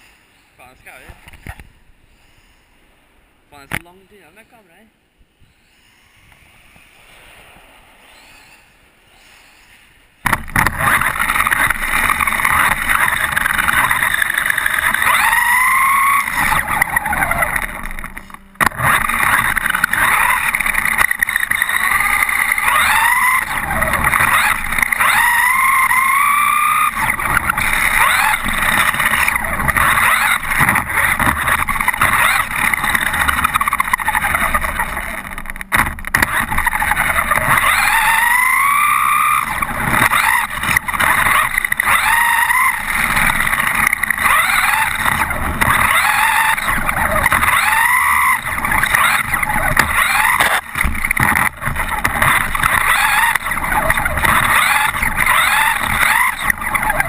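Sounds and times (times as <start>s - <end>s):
tyre and drivetrain noise: 10.2s - 57.0s
rc truck motor whining: 10.3s - 57.0s.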